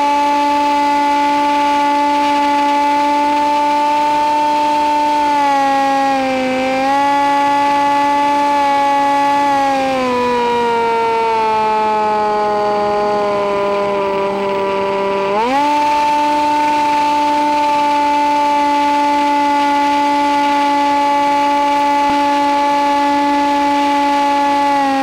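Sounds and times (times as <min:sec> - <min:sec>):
model plane motor whine: 0:00.0 - 0:25.0.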